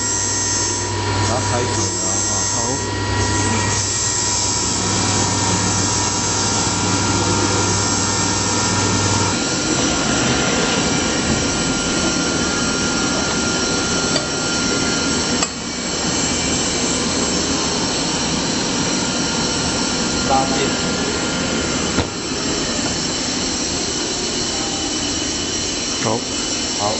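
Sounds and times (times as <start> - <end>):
grinding machine grinding: 0.0 - 26.9
thin whine: 0.0 - 26.9.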